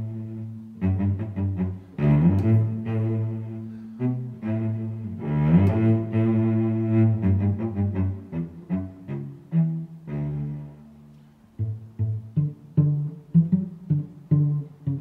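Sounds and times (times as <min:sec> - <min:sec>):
low bowed strings music: 0:00.0 - 0:15.0.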